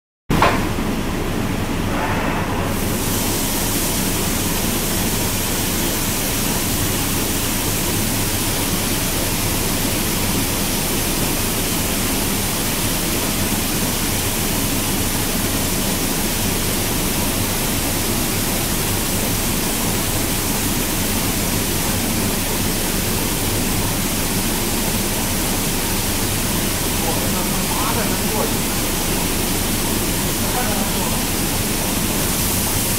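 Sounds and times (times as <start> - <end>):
spray booth hissing: 1.9 - 32.9.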